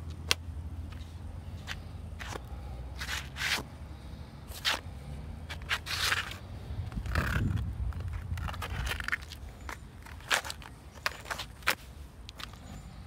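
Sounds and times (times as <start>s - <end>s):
shoes scraping on asphalt: 0.3s - 3.7s, 4.5s - 13.0s.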